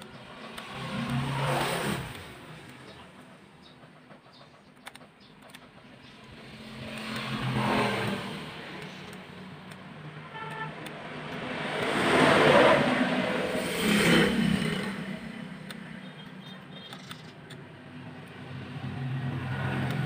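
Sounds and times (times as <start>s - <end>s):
motor vehicles passing by: 0.0s - 20.0s.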